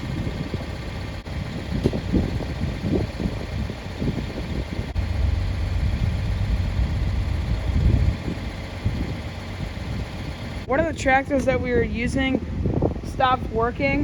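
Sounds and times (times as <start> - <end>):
tractor engine running: 0.0 - 13.8.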